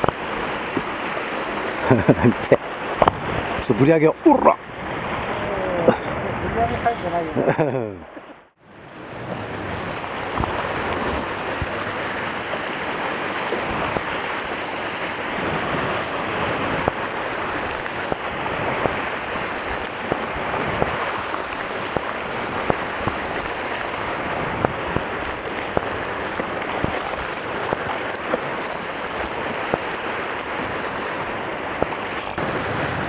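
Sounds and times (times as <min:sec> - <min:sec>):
surf washing against rocks: 0:00.0 - 0:33.0
wind buffeting microphone: 0:00.0 - 0:33.0.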